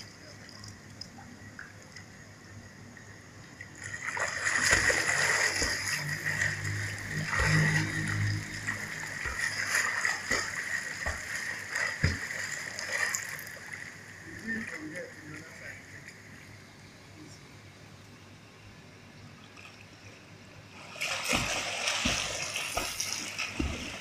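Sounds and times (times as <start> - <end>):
water splashing in a pool: 0.0 - 16.5, 19.4 - 24.0.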